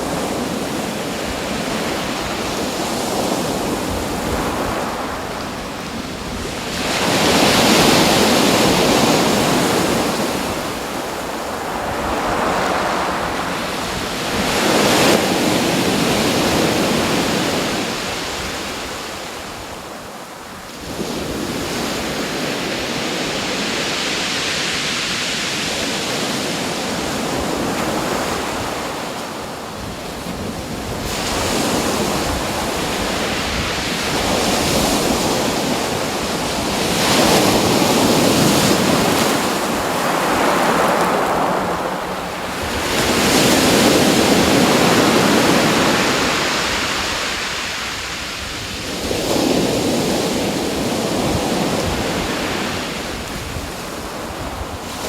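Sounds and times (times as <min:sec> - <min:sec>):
waves washing in: 0:00.0 - 0:55.0.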